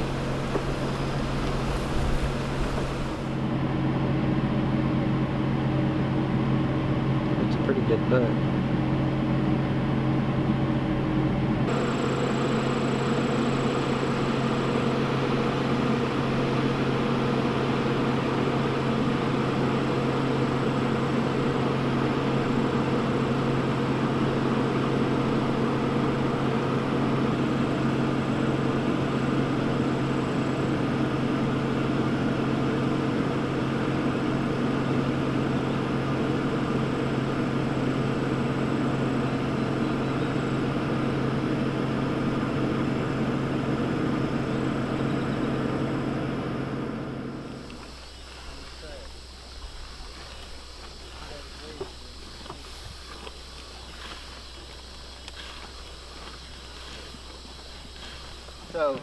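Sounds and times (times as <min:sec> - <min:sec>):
motor humming steadily: 0:00.0 - 0:59.0.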